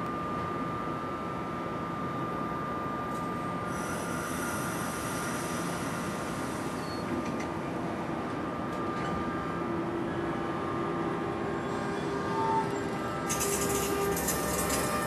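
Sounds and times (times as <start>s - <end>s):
train hum with high whine: 0.0s - 15.0s.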